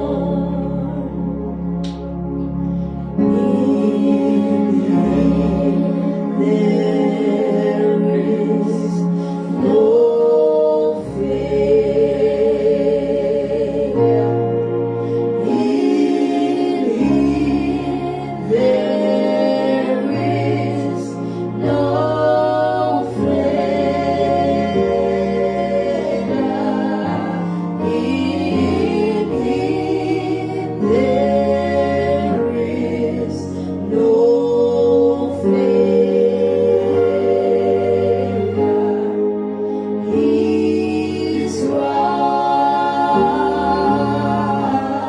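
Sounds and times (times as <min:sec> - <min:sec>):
gospel choir singing: 0:00.0 - 0:45.0.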